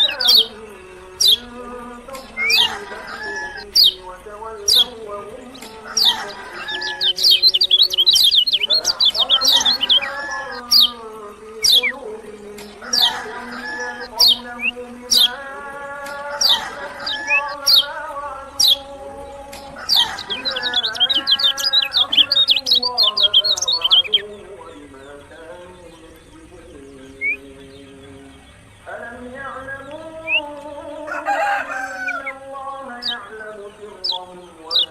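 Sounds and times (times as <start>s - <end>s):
bird chirping and twittering: 0.0s - 34.9s
man chanting recitation: 0.0s - 34.9s.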